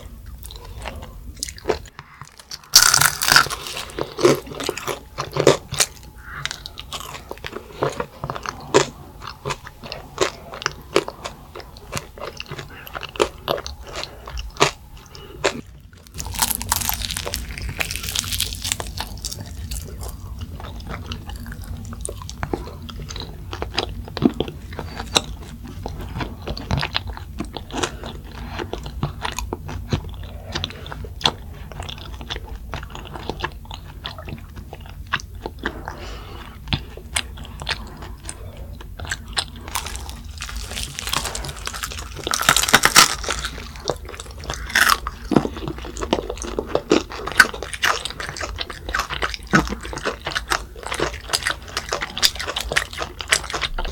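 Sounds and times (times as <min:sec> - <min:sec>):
crunching fried chicken: 0:00.1 - 0:53.9.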